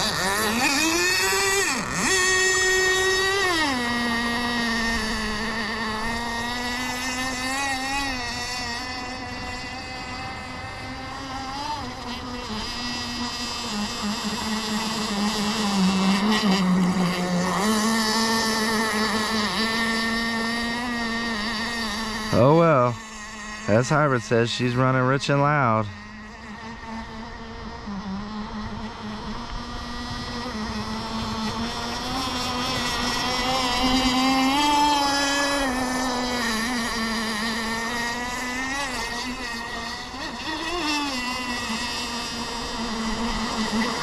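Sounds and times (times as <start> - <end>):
model boat engine running: 0.0 - 44.0.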